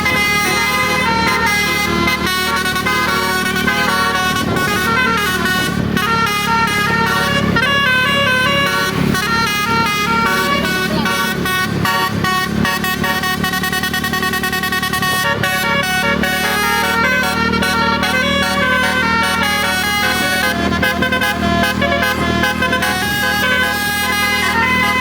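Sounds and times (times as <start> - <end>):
low vehicle rumble: 0.0 - 25.0
multi-trumpet air horn tune: 0.0 - 25.0.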